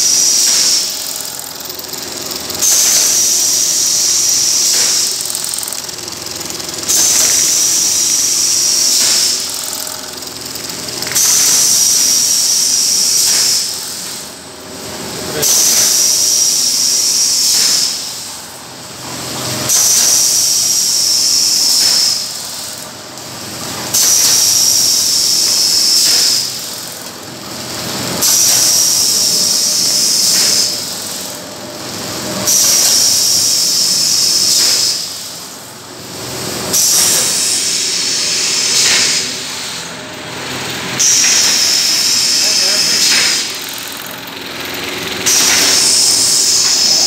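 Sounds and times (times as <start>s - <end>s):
machine hiss with high whistle: 0.0s - 14.3s, 15.3s - 18.4s, 19.6s - 22.8s, 23.9s - 26.9s, 28.2s - 31.3s, 32.4s - 35.4s, 36.6s - 39.9s, 40.9s - 44.1s, 45.1s - 47.0s
machine hum: 0.0s - 47.0s.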